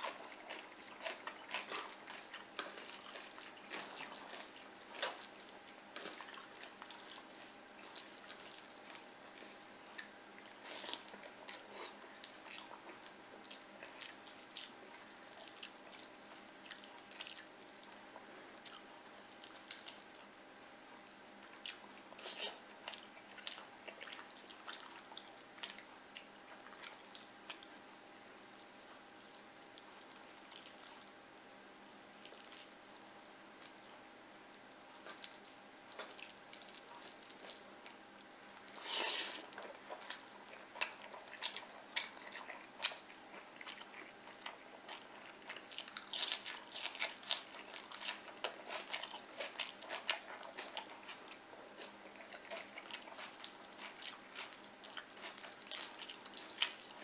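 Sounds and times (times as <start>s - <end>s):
wet smacking chewing: 0.0s - 20.4s, 21.0s - 31.1s, 32.2s - 57.0s.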